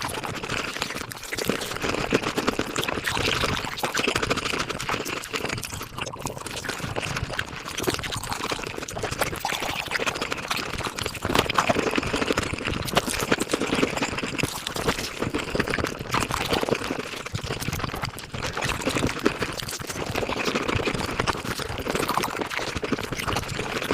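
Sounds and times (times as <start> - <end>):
sped up chewing clicks: 0.0 - 23.9.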